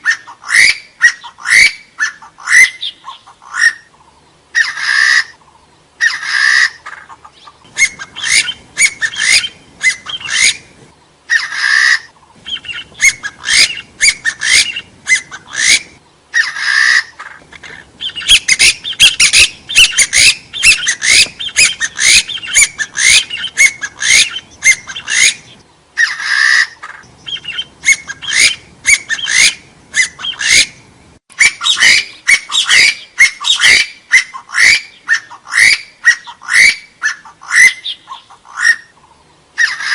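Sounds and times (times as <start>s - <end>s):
harsh rasping bird call: 0.0s - 10.7s, 11.3s - 39.9s.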